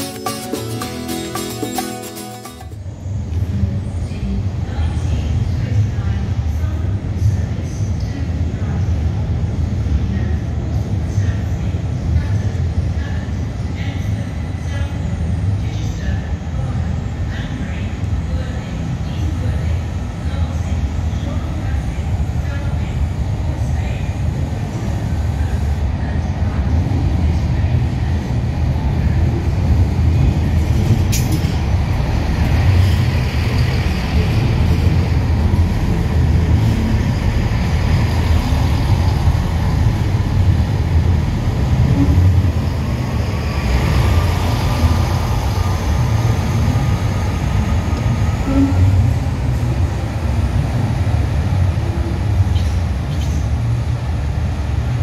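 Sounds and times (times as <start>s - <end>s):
train diesel engine rumble: 0.0s - 55.0s.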